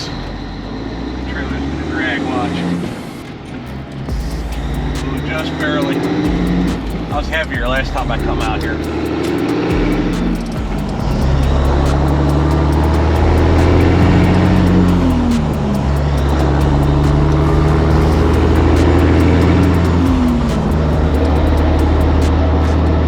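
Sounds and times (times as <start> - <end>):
truck diesel engine accelerating: 0.0 - 23.0.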